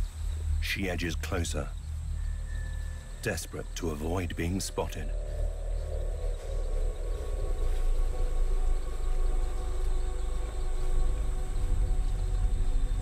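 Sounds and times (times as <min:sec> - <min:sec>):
low rumbling drone: 0:00.0 - 0:13.0
sinking sustained tones: 0:00.0 - 0:13.0.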